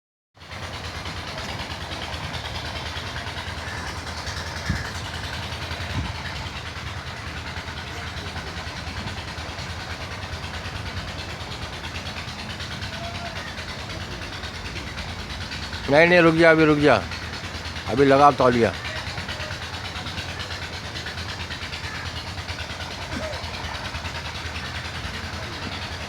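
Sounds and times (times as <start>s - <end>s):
vehicle engine running: 0.4s - 26.0s.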